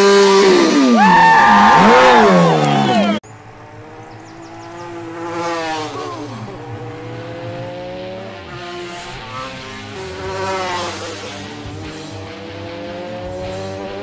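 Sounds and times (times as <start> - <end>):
motorcycle engine revving past: 0.0 - 14.0.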